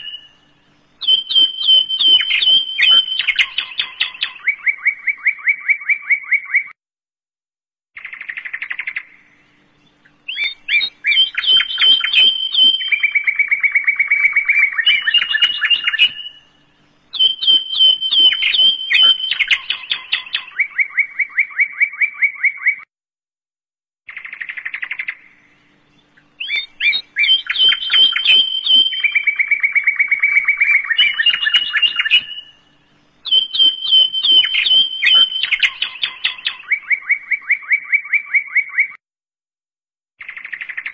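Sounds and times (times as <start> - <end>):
songbirds trilling: 0.0 - 6.7, 8.0 - 22.8, 24.1 - 39.0, 40.2 - 40.9.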